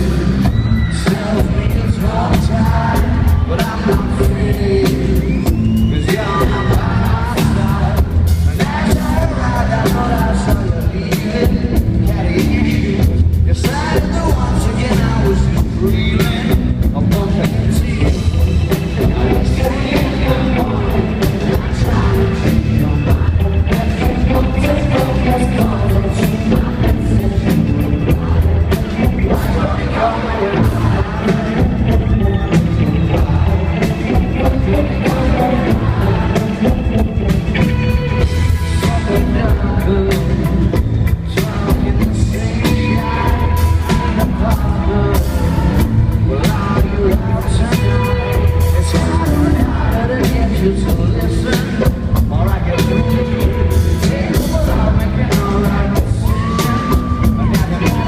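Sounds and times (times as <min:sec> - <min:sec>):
live rock band: 0:00.0 - 0:58.0
person singing: 0:00.0 - 0:58.0.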